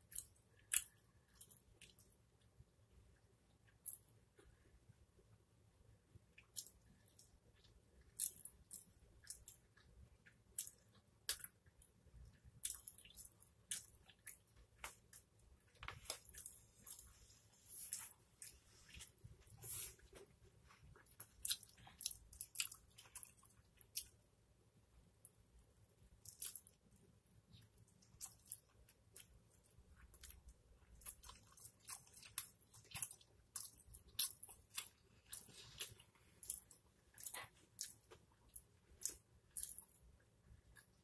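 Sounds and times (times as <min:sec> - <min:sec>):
close-miked chewing: 0:00.0 - 0:02.3, 0:06.2 - 0:24.2, 0:25.2 - 0:41.0.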